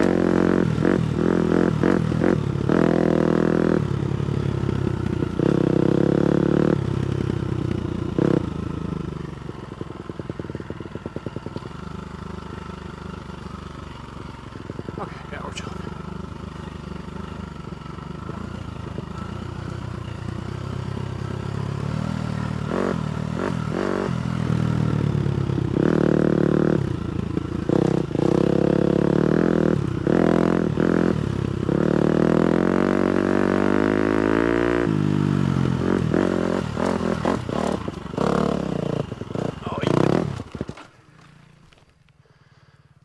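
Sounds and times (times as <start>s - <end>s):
motorcycle engine revving: 0.0s - 42.8s.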